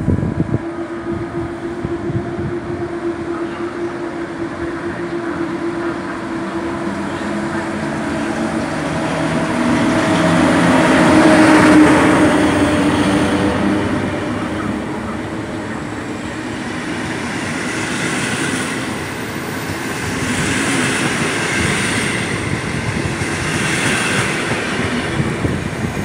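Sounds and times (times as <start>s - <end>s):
electric locomotive passing: 0.0s - 26.0s
train carriages rolling by: 3.0s - 26.0s.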